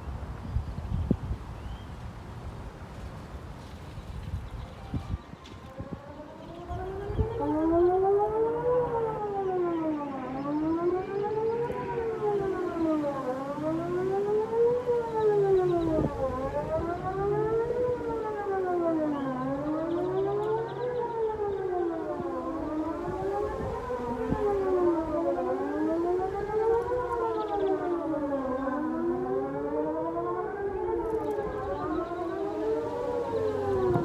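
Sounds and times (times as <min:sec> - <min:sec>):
warning siren wailing: 0:04.1 - 0:34.0.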